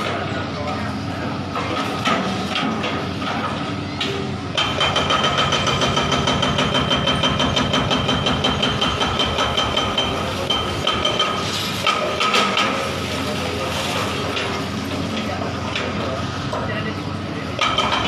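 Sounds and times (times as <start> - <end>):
excavator engine throbbing: 0.0 - 18.0.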